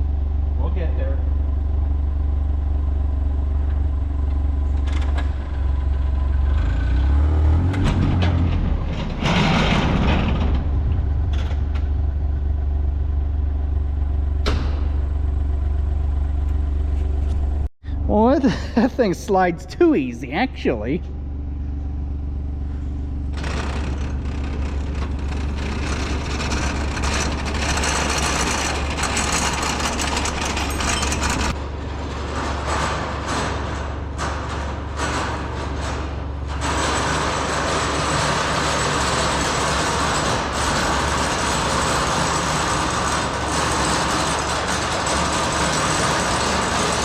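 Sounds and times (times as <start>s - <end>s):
tractor diesel engine droning: 0.0s - 47.0s.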